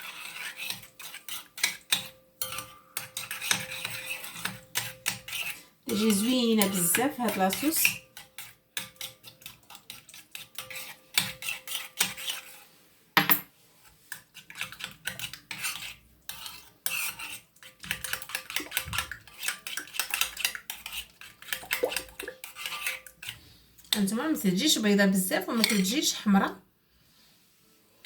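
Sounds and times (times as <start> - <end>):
spoon stirring in a bowl: 0.0 - 26.2.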